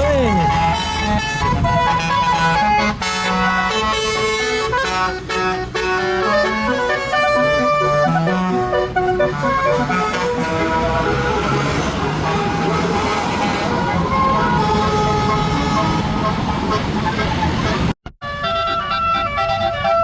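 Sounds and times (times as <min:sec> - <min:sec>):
musical air horn playing a tune: 0:00.3 - 0:20.0.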